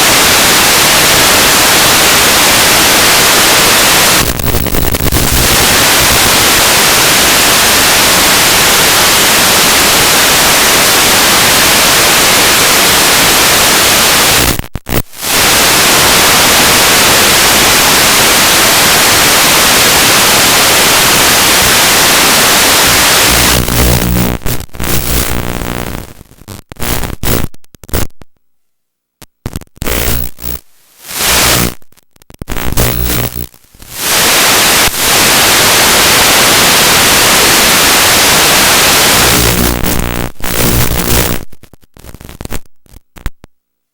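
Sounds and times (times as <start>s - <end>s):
loud static hiss: 0.0s - 28.5s, 29.2s - 43.9s.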